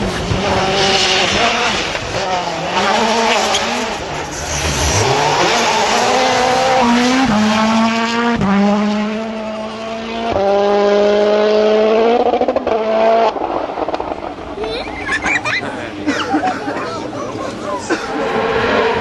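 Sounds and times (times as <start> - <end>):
rally car engine accelerating: 0.0 - 19.0.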